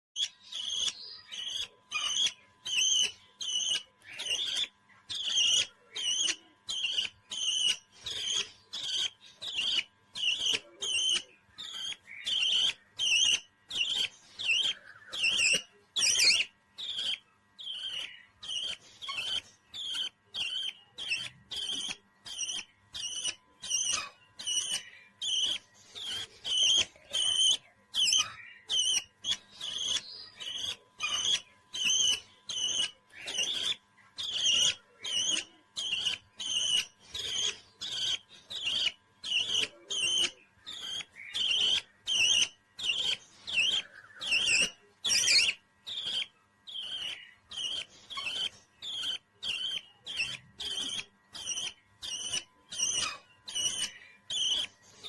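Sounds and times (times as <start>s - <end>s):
parrot chirping: 0.2s - 55.0s.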